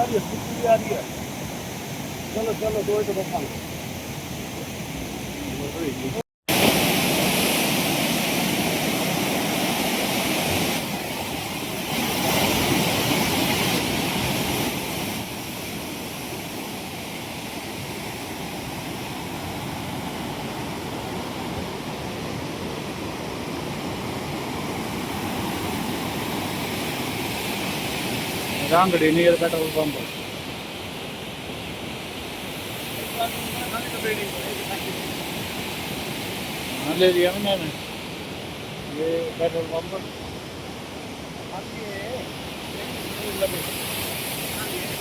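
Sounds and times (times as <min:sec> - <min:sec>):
flooded river water rushing: 0:00.0 - 0:45.0.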